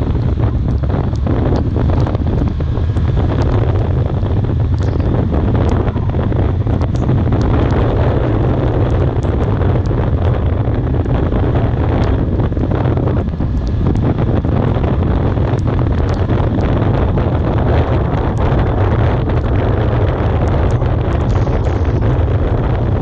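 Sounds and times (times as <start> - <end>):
steady low rumble: 0.0 - 23.0
wind buffeting microphone: 0.0 - 23.0.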